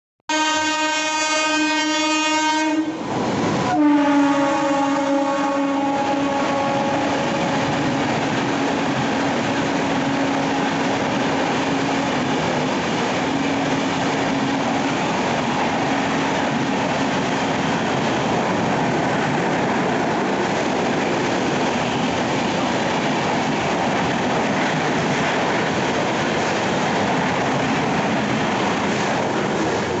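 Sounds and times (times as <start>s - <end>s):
train wheels rumbling on rails: 0.6s - 30.0s.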